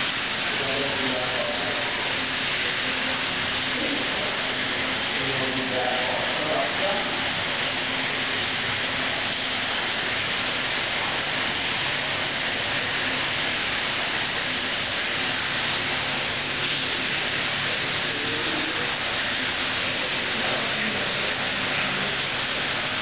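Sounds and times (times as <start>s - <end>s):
steady hissing background noise: 0.0s - 23.0s.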